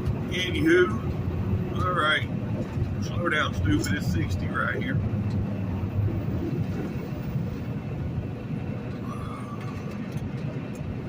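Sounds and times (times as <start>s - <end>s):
diesel truck engine drone: 0.0s - 11.0s
road noise: 0.0s - 11.0s.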